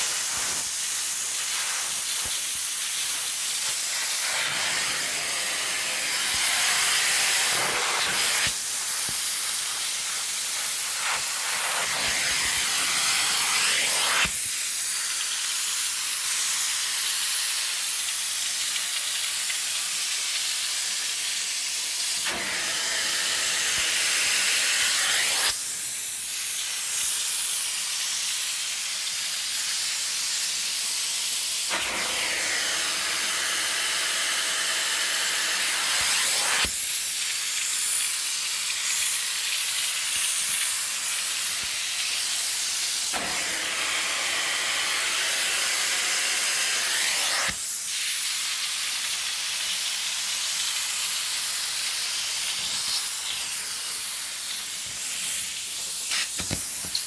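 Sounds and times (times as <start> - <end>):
vacuum suction hiss: 0.0 - 57.0.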